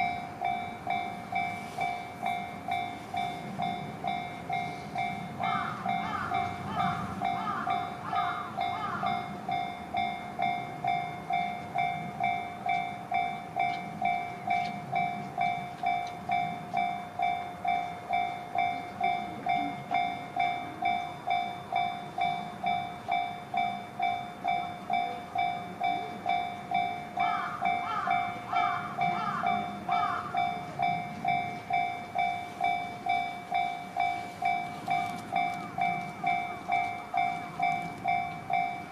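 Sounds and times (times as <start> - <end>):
level-crossing warning bell: 0.0 - 38.9.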